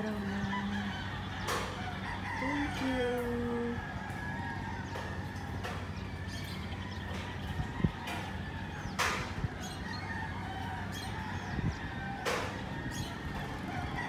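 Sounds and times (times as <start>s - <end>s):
outdoor background noise: 0.0s - 14.0s
roosters crowing: 0.0s - 14.0s.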